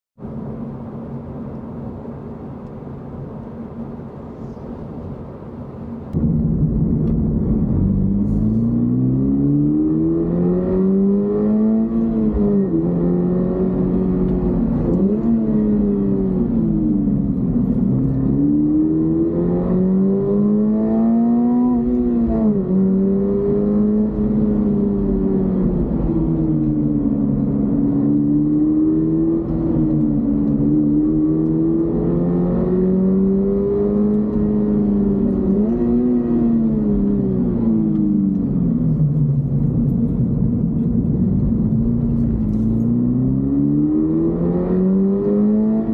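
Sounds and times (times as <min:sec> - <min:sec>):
car engine revving: 0:05.9 - 0:45.9.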